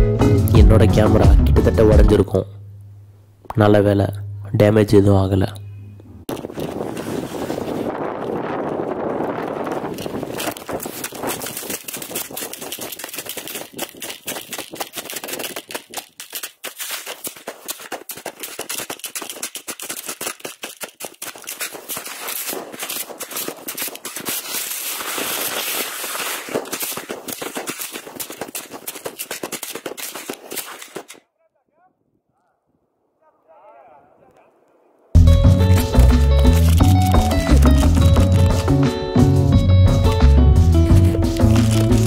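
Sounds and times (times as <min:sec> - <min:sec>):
dense crackling: 0:05.4 - 0:42.0.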